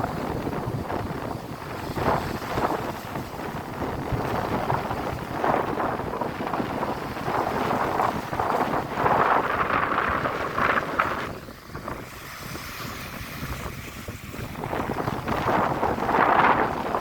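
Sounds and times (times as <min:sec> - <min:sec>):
sea waves washing: 0:00.0 - 0:17.0
wind buffeting microphone: 0:00.0 - 0:17.0.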